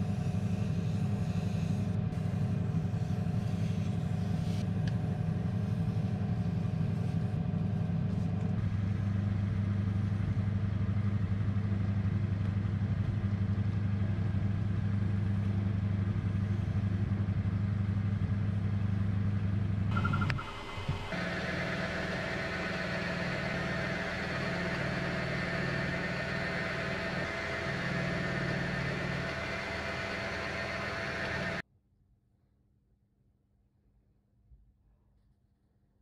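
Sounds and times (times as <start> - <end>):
lathe motor humming: 0.0 - 31.6.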